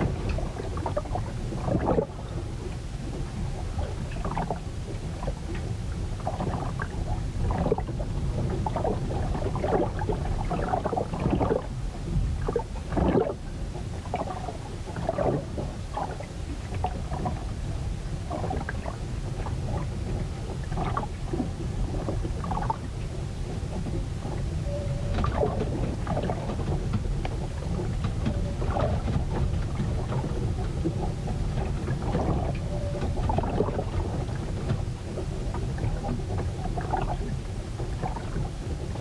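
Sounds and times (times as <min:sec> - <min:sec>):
waves slapping against hull: 0:00.0 - 0:39.0.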